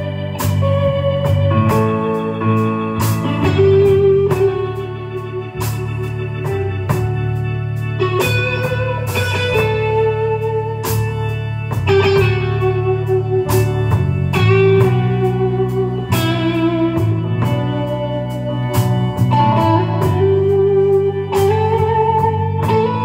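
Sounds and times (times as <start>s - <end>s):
bass and drums: 0.0s - 23.0s
electric guitar lead: 0.0s - 23.0s.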